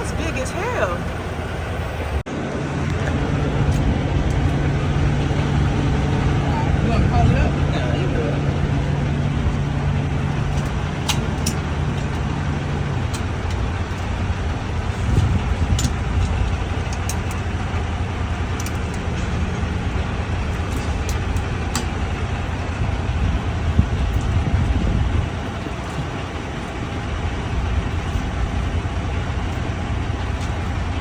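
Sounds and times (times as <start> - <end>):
diesel engine idling: 0.0 - 31.0
low hum: 0.0 - 31.0.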